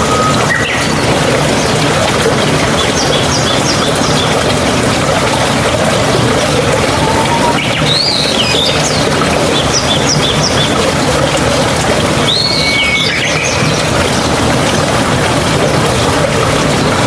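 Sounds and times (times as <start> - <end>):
birds chirping: 0.0 - 11.1, 12.1 - 17.0
flowing water rushing: 0.0 - 17.0.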